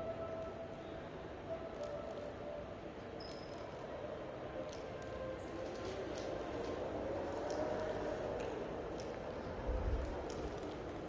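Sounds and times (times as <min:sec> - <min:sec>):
underground station hall hum: 0:00.0 - 0:11.0.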